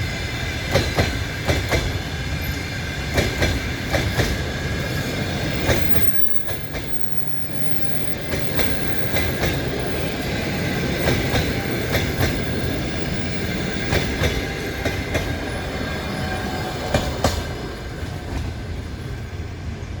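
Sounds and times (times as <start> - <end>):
train coaches rumbling: 0.0 - 20.0.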